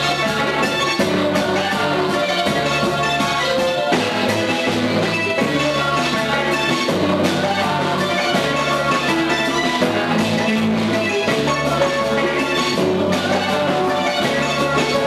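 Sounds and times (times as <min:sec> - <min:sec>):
band with drums playing: 0:00.0 - 0:15.0
women singing: 0:00.0 - 0:15.0.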